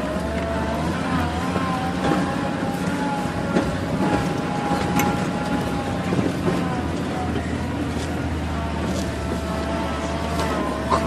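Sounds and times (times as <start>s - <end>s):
drivetrain whine: 0.0s - 11.0s.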